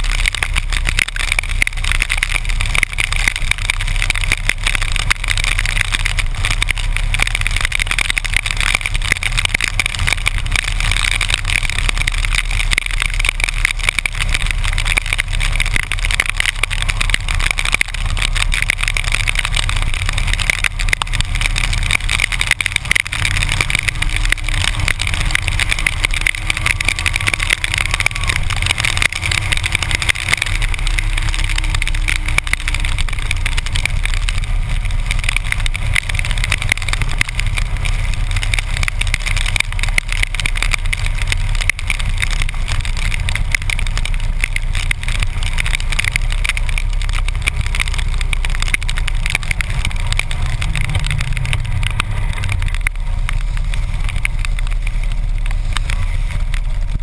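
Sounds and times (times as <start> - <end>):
motorcycle engine running: 0.0 - 57.0
wind and wet-road spray hiss: 0.0 - 57.0.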